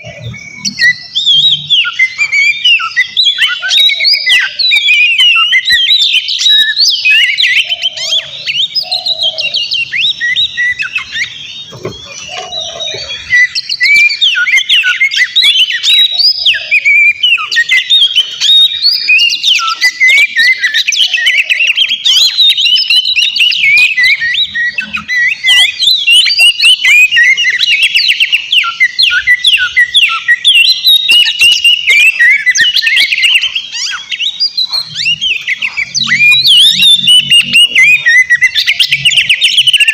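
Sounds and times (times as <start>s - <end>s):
bird singing chirps and whistles: 0.0s - 39.9s.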